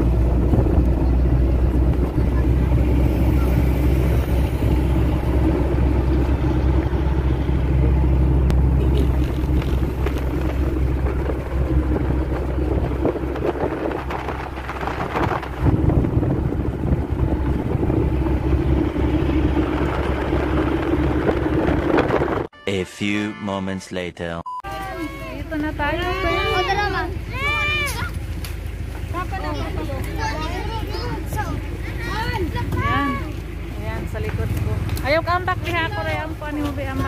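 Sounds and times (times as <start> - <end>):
vehicle engine drone: 0.0 - 22.8, 24.7 - 37.0
road noise: 0.0 - 37.0.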